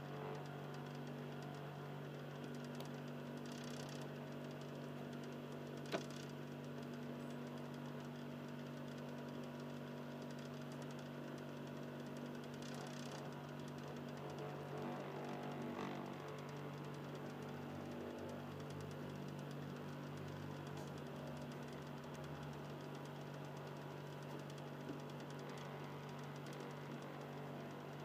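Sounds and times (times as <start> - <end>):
disc drive motor humming: 0.0 - 28.0.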